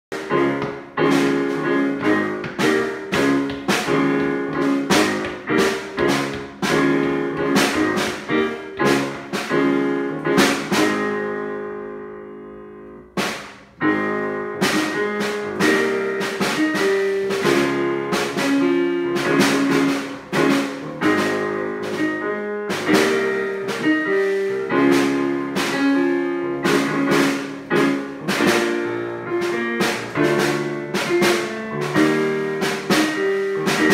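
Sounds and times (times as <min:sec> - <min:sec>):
electric keyboard song: 0:00.1 - 0:33.9
drum and cymbal hits: 0:00.2 - 0:09.8, 0:13.2 - 0:13.8, 0:14.6 - 0:33.9.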